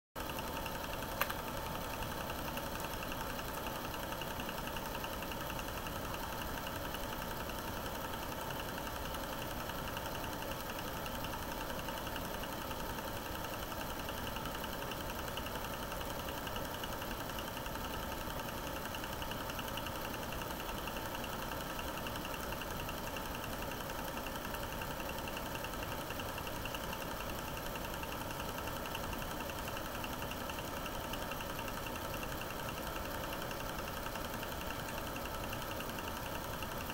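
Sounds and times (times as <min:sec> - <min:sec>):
film projector whirring: 0:00.2 - 0:36.9.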